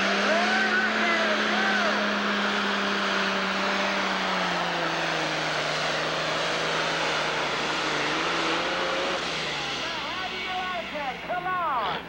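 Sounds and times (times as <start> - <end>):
diesel engine running at full throttle: 0.0 - 12.0.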